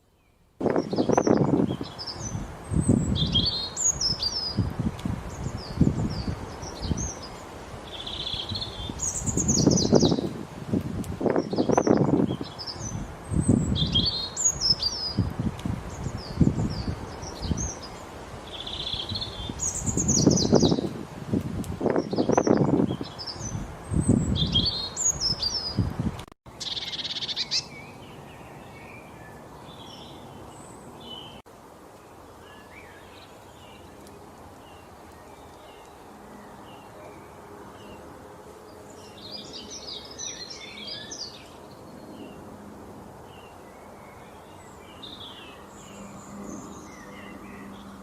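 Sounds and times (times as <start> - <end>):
small songbirds chirping: 0.0 - 42.6, 43.2 - 48.0.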